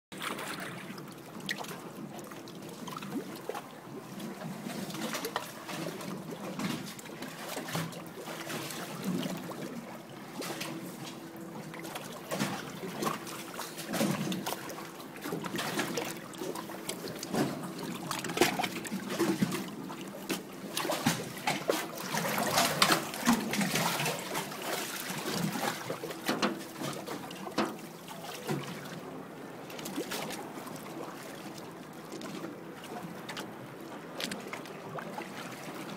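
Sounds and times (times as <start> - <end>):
water splashing and trickling: 0.1 - 35.9.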